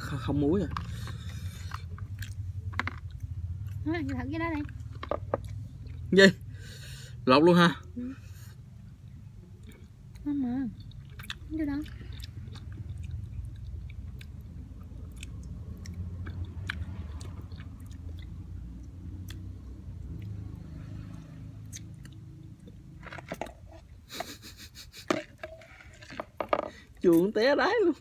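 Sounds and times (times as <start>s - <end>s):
person chewing fruit: 0.1s - 3.8s, 4.6s - 6.6s, 8.5s - 24.4s, 25.1s - 27.3s.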